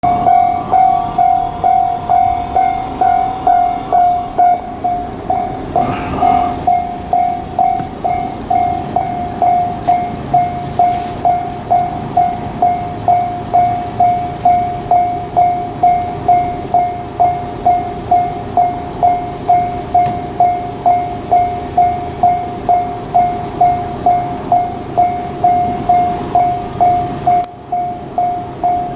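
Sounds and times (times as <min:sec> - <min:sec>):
level crossing warning bell: 0:00.0 - 0:28.9.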